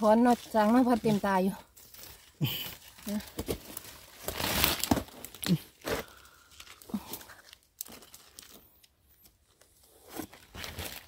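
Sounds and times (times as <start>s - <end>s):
dry leaves and twigs crackling: 0.0s - 9.7s.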